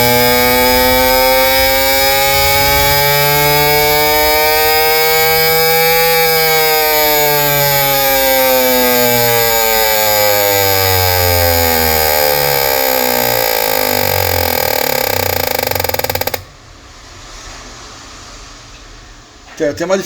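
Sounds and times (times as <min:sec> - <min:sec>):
fuel injectors buzzing: 0:00.0 - 0:16.5.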